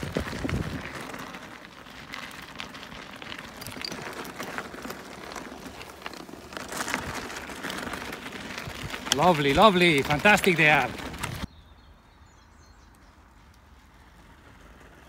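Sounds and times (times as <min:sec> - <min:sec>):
bike tyres rolling over gravel: 0:00.0 - 0:15.0.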